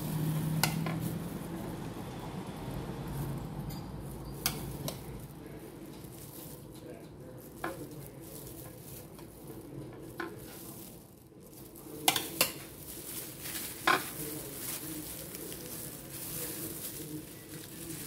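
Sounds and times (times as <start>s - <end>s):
plastic gloves rustling: 0.0s - 18.0s.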